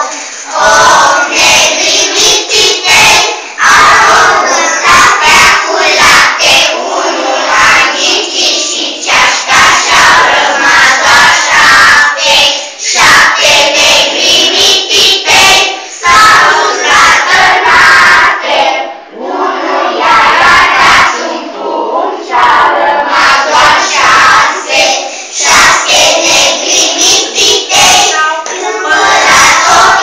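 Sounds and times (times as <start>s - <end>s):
children singing together: 0.0s - 30.0s.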